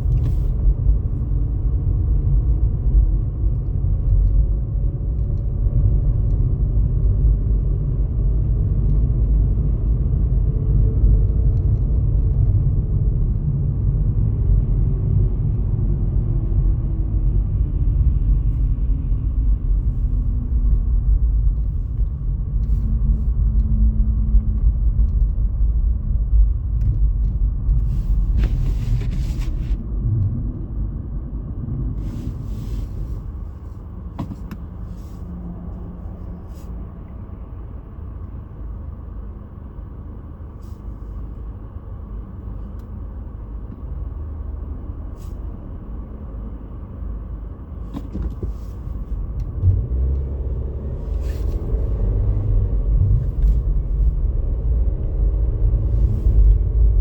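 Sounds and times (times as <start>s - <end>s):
vehicle rumble and engine: 0.0s - 57.0s.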